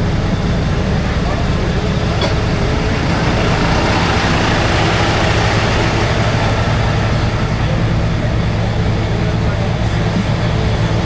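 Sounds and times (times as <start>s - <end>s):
low engine hum: 0.0s - 11.0s
road noise: 0.0s - 11.0s.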